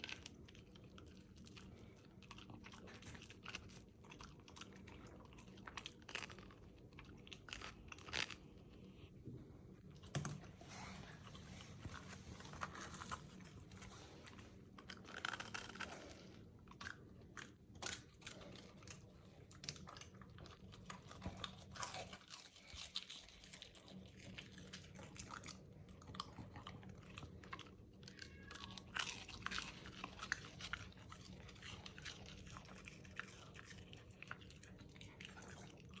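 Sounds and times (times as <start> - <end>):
puppy chewing crunchy food: 0.0 - 36.0.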